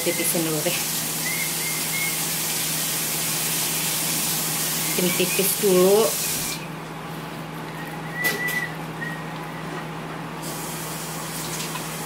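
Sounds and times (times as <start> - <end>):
low kitchen hum and hiss: 0.0 - 12.0.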